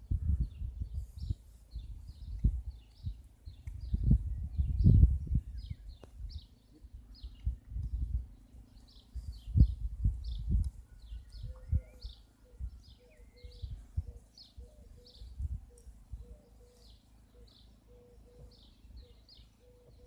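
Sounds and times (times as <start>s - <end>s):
dull low thumps and rumbles: 0.0s - 16.6s
birds chirping: 0.0s - 20.0s.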